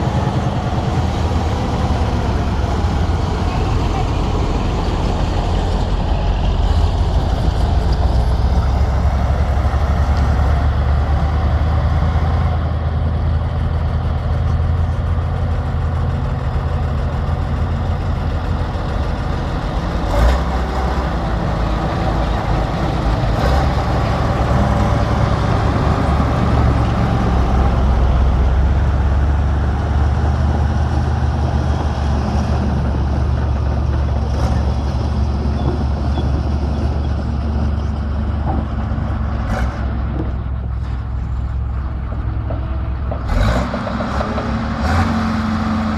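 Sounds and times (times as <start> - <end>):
bulldozer diesel engine under load: 0.0 - 45.9.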